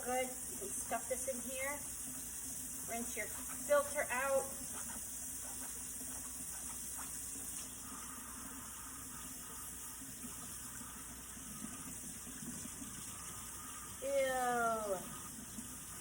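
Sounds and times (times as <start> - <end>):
faucet running: 0.0 - 16.0
filter rinsed under water: 0.0 - 16.0.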